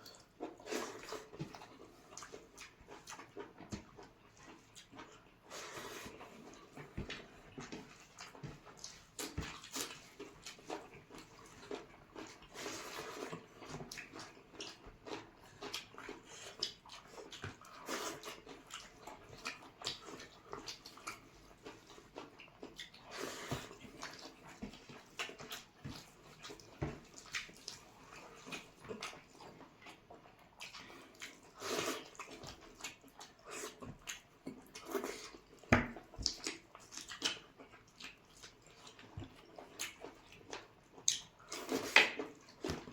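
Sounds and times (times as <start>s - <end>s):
wet chewing and slurping: 0.0s - 42.9s.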